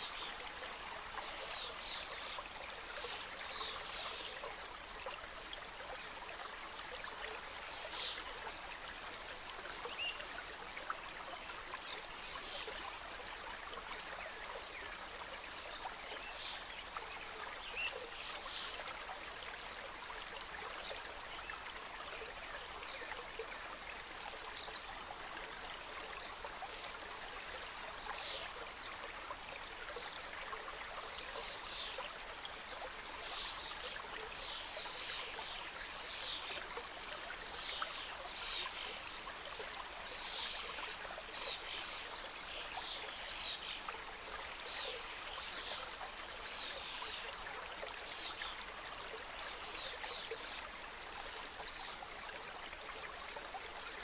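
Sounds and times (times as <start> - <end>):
stream water rushing: 0.0 - 4.2, 6.1 - 52.0.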